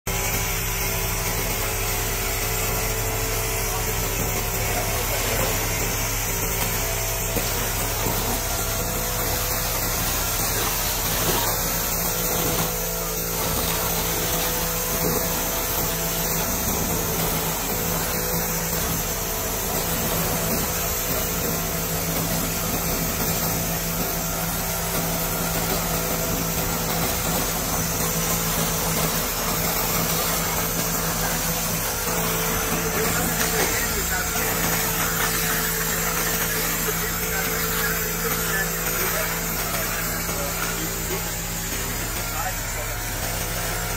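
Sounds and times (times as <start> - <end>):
laser cleaning machine hiss: 0.1 - 43.9.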